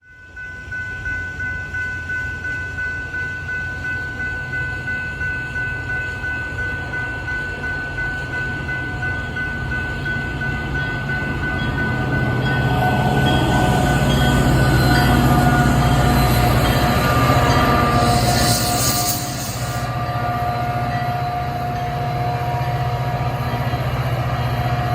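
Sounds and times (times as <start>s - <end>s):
crossing bell ringing: 0.0s - 24.9s
train rumble: 0.2s - 24.9s.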